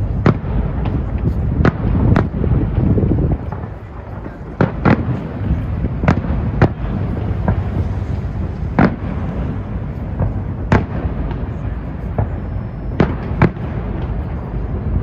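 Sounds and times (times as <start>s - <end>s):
fireworks bursting with bangs: 0.0s - 15.0s
steady low rumble: 0.0s - 15.0s.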